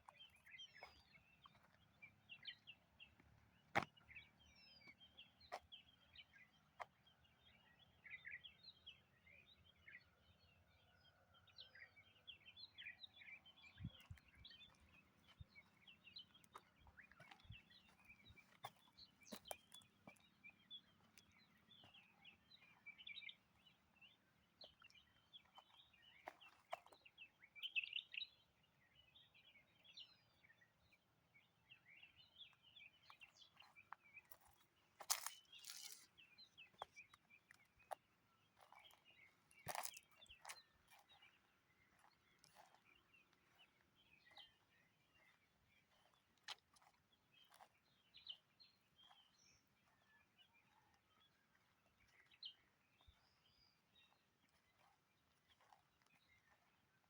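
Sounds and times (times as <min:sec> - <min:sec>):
faint birdsong chirps: 0:00.0 - 0:57.0.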